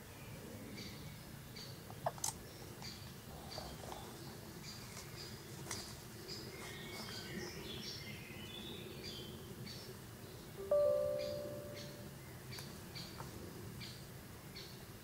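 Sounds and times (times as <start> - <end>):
low outdoor hum: 0.0 - 14.5
small birds chirping and singing: 0.0 - 14.9.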